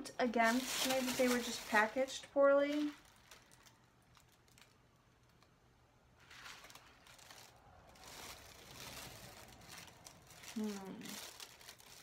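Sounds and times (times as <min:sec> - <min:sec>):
tissue paper rustling: 0:00.3 - 0:04.7, 0:06.2 - 0:12.0.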